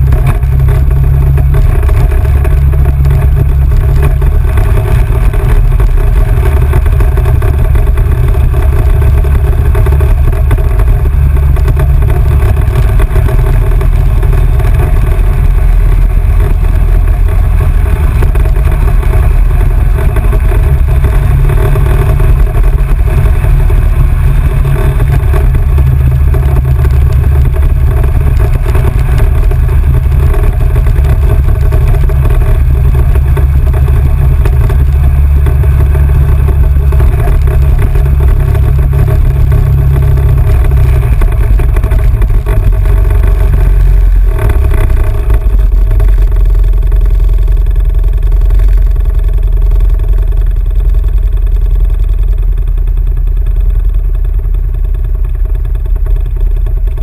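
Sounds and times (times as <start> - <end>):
off-road vehicle rumbling: 0.0 - 57.0.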